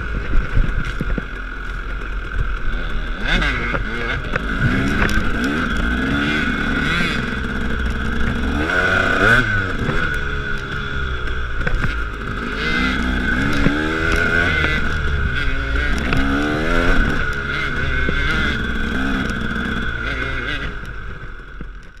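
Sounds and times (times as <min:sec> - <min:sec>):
dirt bike engine revving: 0:00.0 - 0:21.8
scattered clicks: 0:00.0 - 0:22.0.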